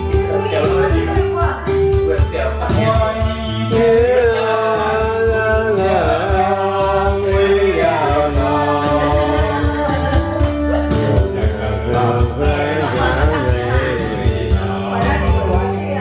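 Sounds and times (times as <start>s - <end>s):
backing track with steady beat: 0.0s - 16.0s
man singing into microphone: 2.5s - 15.9s.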